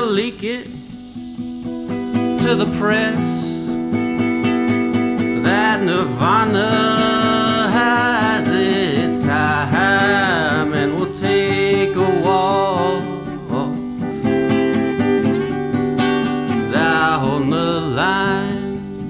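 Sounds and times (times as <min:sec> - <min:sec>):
man singing: 0:00.0 - 0:01.0, 0:02.3 - 0:15.6, 0:16.2 - 0:19.0
acoustic guitar strumming: 0:00.0 - 0:19.0.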